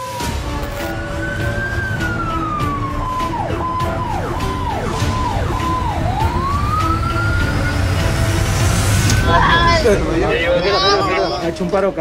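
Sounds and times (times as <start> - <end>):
ambulance siren wailing: 0.0 - 11.4.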